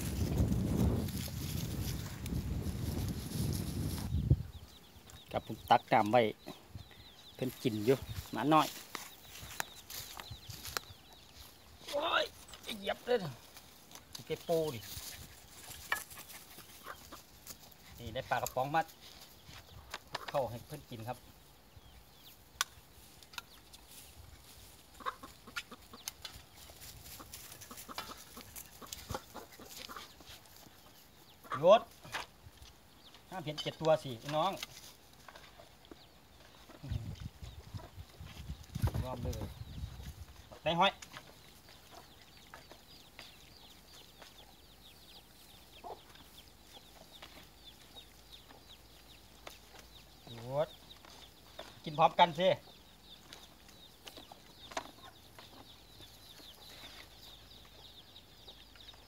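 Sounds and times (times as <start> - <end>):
birds chirping: 0.0 - 59.0
chickens clucking: 0.0 - 59.0.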